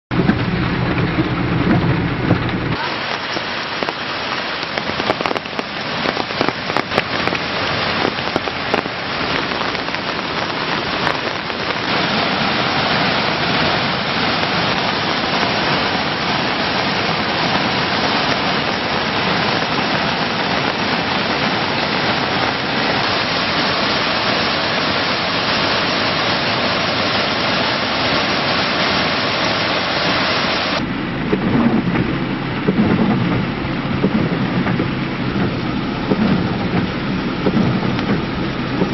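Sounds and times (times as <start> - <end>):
heavy rain falling: 0.1 - 38.9
waterfall rushing: 2.7 - 38.9.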